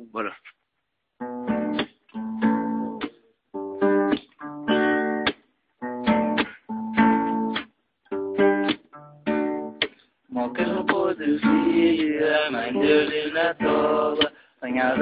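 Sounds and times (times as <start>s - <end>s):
acoustic guitar strumming: 1.2s - 15.0s.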